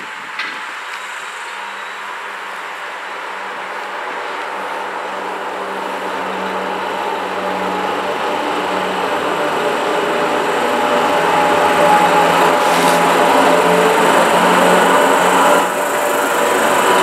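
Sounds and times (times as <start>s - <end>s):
electric locomotives humming: 0.0s - 17.0s
train rushing noise: 0.0s - 17.0s.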